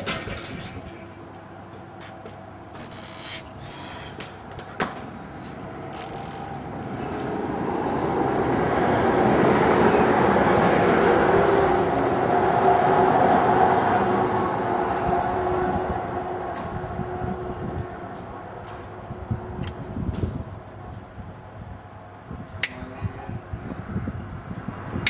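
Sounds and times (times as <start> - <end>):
road vehicle passing: 0.0 - 25.0.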